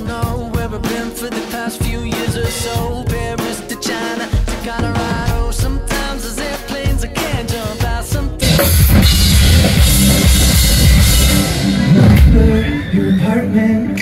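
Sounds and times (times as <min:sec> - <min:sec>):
heavy bass drum: 0:00.0 - 0:12.6
rock band music: 0:00.0 - 0:14.0.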